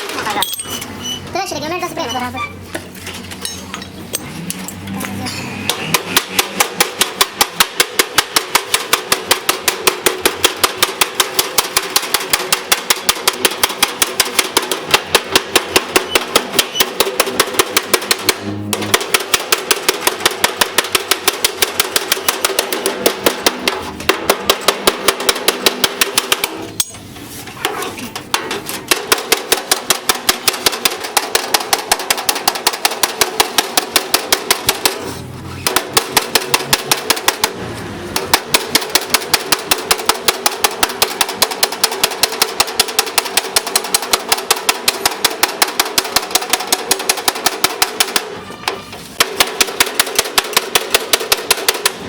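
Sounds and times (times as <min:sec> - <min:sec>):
hammer beating sheet metal: 0:05.3 - 0:52.0.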